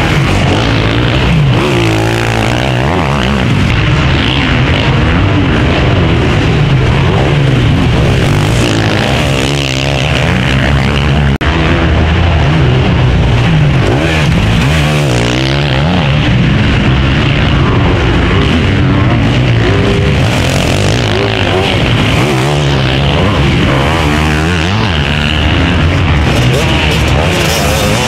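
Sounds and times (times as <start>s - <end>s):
motocross motorcycles racing: 0.0s - 28.0s.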